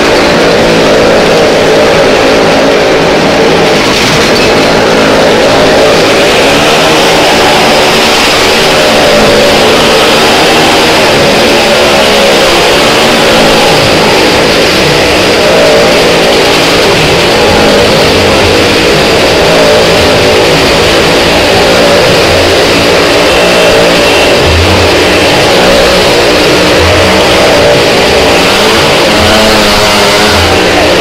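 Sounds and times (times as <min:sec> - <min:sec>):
car engine revving loudly: 0:00.0 - 0:31.0.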